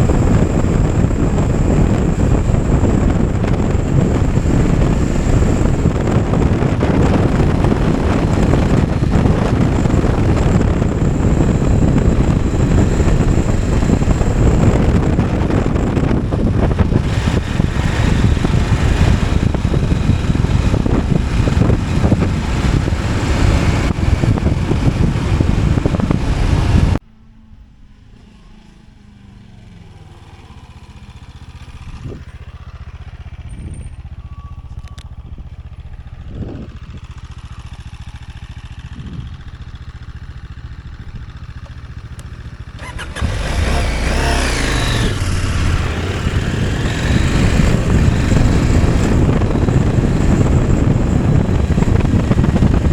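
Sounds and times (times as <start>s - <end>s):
wind buffeting microphone: 0.0s - 27.0s, 29.2s - 52.9s
motorcycle engine: 0.0s - 52.9s.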